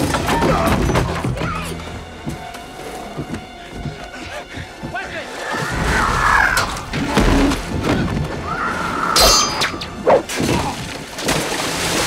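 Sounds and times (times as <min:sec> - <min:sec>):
dramatic film music: 0:00.0 - 0:11.7.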